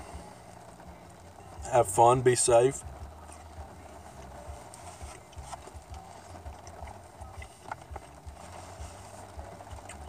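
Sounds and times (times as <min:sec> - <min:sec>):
low handling rumble: 0:00.0 - 0:10.0.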